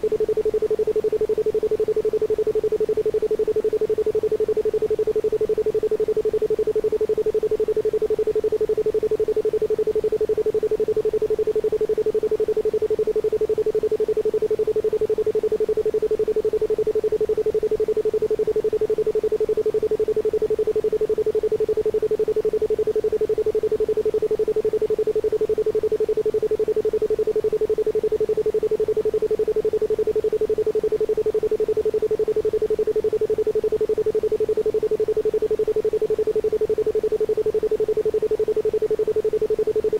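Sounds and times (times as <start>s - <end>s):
pulsed pure tone: 0.0s - 39.9s.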